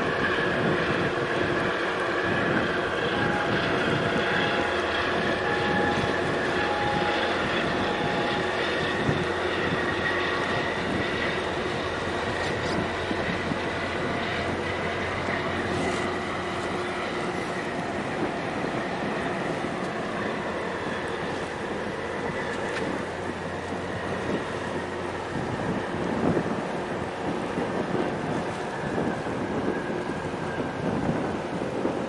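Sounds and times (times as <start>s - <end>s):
faint high whine: 0.0s - 31.2s
ship engines droning: 0.0s - 32.0s
water wash: 0.0s - 32.0s.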